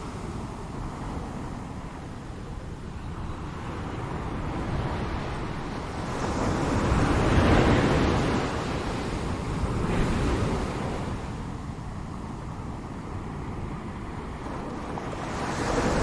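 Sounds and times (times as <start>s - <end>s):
ocean waves washing ashore: 0.0s - 16.0s.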